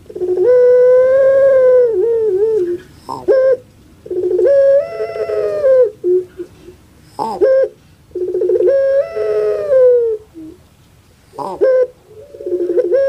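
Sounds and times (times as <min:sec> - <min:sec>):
dove drawn-out call: 0:00.0 - 0:10.6, 0:11.3 - 0:13.0.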